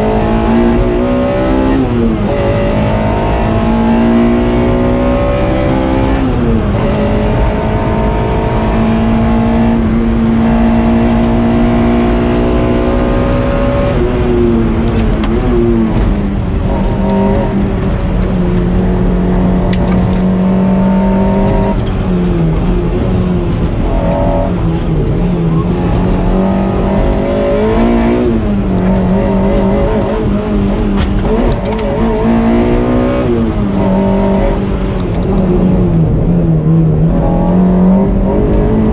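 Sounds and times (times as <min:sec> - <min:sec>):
car engine at high revs: 0:00.0 - 0:38.9.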